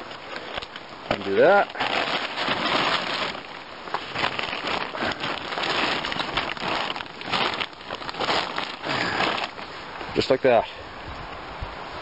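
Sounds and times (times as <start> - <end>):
plastic tarp crinkling: 0.0 - 10.3.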